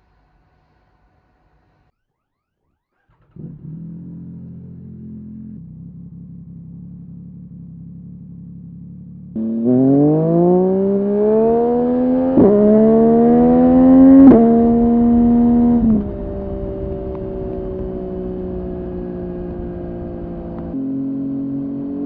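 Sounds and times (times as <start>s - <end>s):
motorcycle engine revving: 2.9s - 22.0s
quick gear upshifts: 3.0s - 22.0s.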